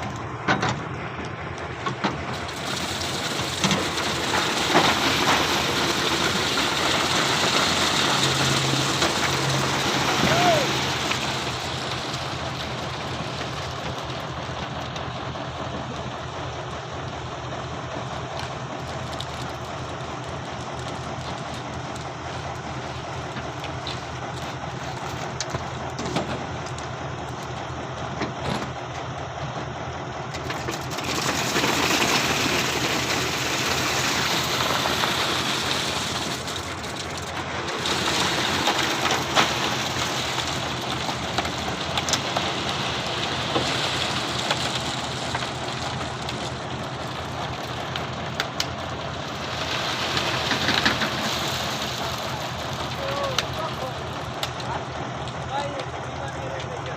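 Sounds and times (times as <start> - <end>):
truck engine running: 0.0 - 56.9.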